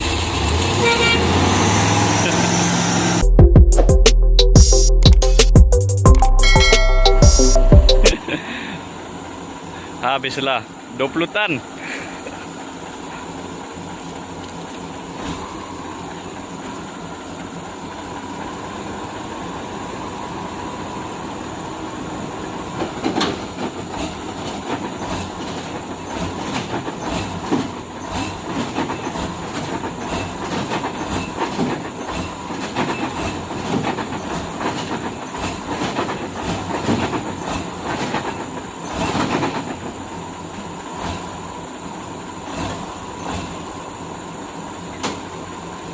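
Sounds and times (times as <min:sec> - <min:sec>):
heavy machinery running: 0:00.0 - 0:03.9, 0:06.0 - 0:45.9.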